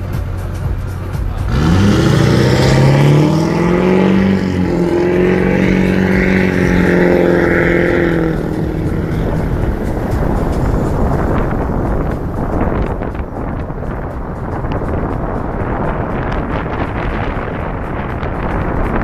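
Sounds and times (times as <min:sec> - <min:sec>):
car engine accelerating: 0:00.0 - 0:19.0
wind noise on microphone: 0:00.0 - 0:19.0.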